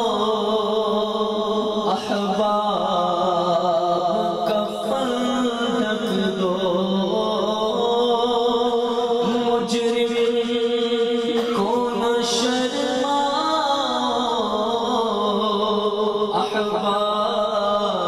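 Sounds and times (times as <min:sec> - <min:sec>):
man singing over a pa: 0:00.0 - 0:18.0.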